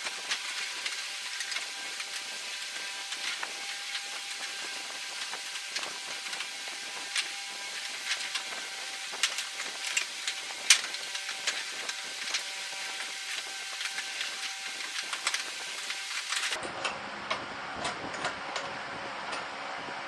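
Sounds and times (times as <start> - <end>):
steady hiss: 0.0 - 16.6.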